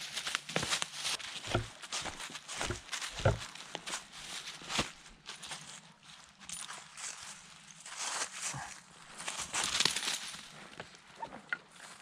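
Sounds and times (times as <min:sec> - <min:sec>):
footsteps in dry leaves: 0:00.0 - 0:10.8.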